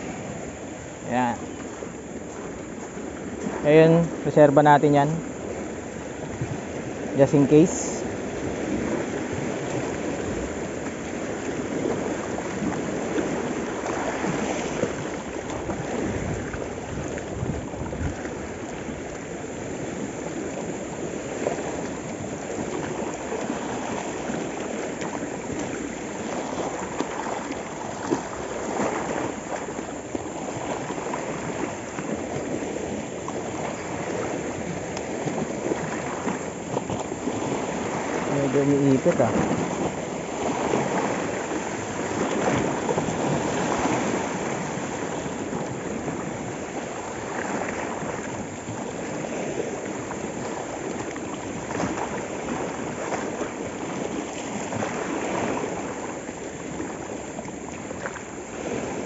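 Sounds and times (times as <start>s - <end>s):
waves washing over rocks: 0.0s - 59.0s.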